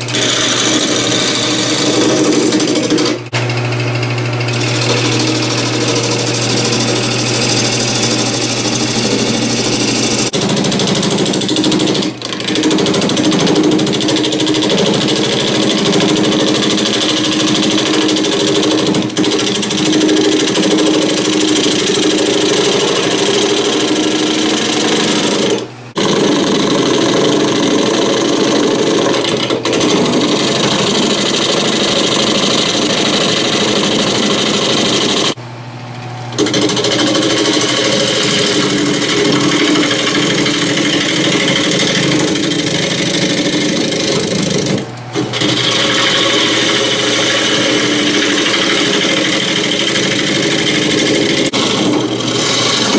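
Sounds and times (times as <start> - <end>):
power tool cutting wood: 0.0 - 35.4, 36.3 - 52.9.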